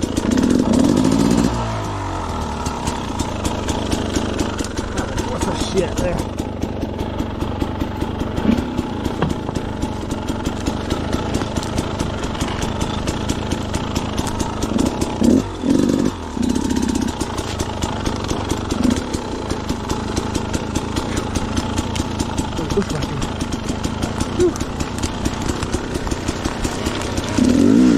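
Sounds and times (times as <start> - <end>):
two-stroke dirt bike engine running: 0.0 - 27.9.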